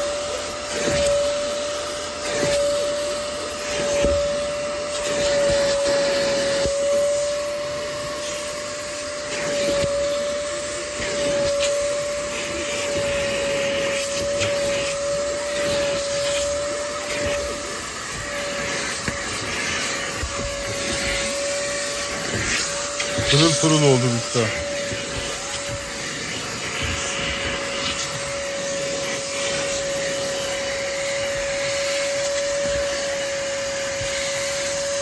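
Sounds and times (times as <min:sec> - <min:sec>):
vacuum motor whine: 0:00.0 - 0:35.0
suction hiss: 0:03.6 - 0:35.0.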